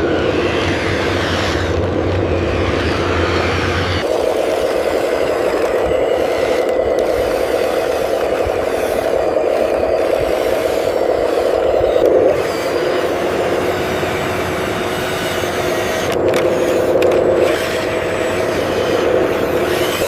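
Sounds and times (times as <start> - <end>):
motor and gear whir: 0.0 - 20.0.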